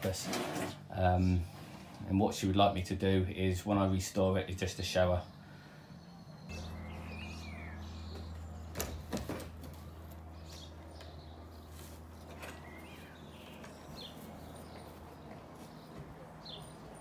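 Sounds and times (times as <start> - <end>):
steady low hum: 0.8 - 17.0
birds chirping: 0.9 - 17.0.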